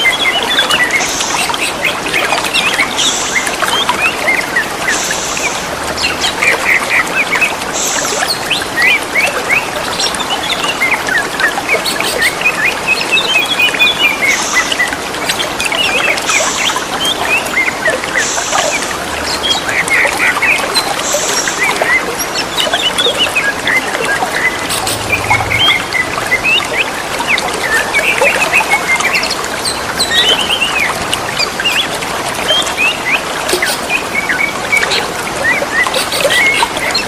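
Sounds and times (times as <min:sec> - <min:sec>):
birds whistling and chirping: 0:00.0 - 0:37.0
trickling water: 0:00.0 - 0:37.0.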